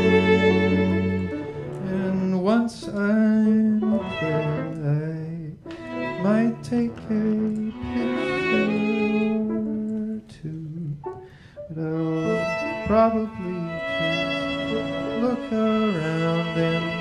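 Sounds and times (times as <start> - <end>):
string instruments: 0.0 - 17.0
man singing: 1.8 - 11.1, 11.7 - 17.0.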